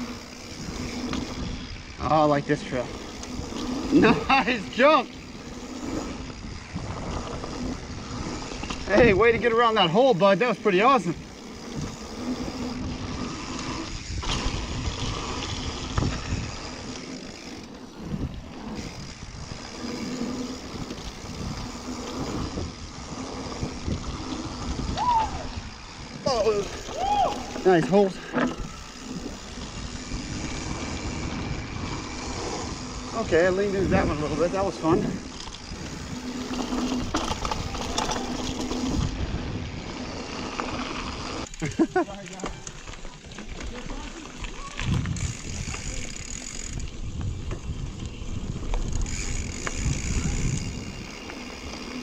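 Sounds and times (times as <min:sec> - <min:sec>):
wind rushing over microphone: 0:00.0 - 0:10.0, 0:11.0 - 0:41.5, 0:44.6 - 0:52.0
bike knocking and rattling: 0:00.0 - 0:52.0
freewheeling hub buzz: 0:00.0 - 0:52.0
tyres on dirt: 0:00.0 - 0:52.0.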